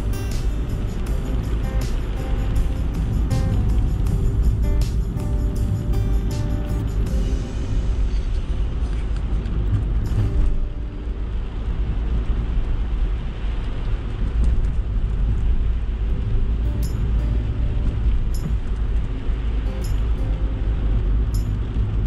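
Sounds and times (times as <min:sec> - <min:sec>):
road and engine rumble: 0:00.0 - 0:22.0
tyres hissing on wet road: 0:00.0 - 0:22.0.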